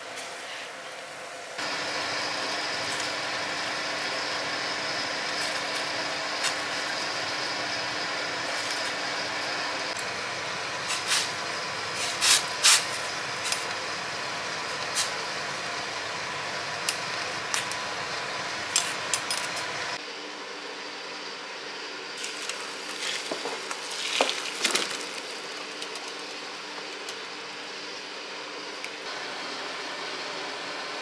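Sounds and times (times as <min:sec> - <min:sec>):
pot boiling hiss: 0:00.0 - 0:20.0, 0:22.1 - 0:30.6.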